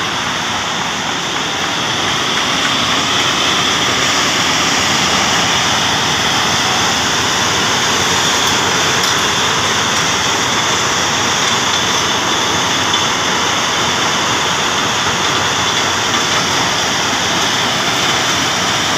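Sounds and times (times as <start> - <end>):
stone crusher machinery din: 0.0 - 18.9.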